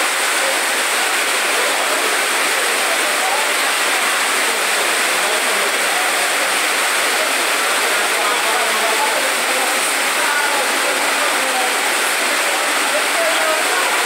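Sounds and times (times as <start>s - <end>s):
floodwater running: 0.0s - 14.0s
torrential rain pouring: 0.0s - 14.0s.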